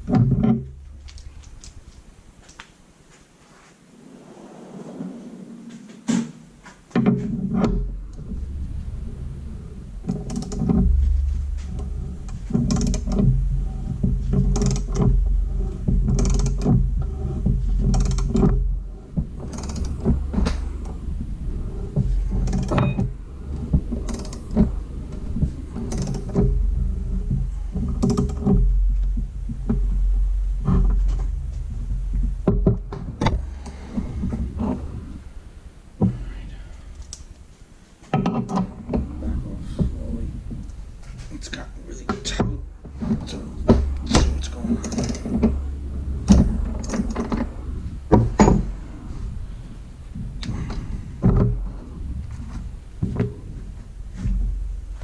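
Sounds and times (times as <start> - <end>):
metal clicks creaks and knocks: 0.0 - 2.7, 6.0 - 55.0
heavy low rumble: 0.0 - 3.0, 3.8 - 38.0, 38.6 - 55.0.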